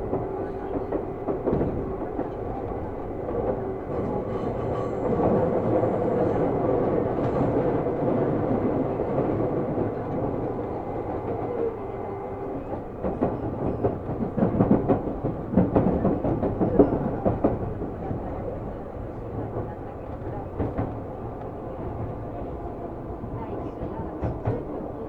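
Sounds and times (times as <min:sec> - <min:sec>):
train rumble from inside: 0:00.0 - 0:25.0.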